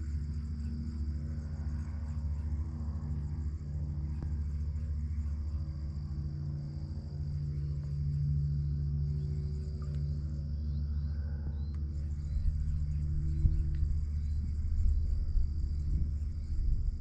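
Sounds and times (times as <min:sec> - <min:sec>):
high-pitched insect trill: 0:00.0 - 0:17.0
low engine drone: 0:00.0 - 0:17.0.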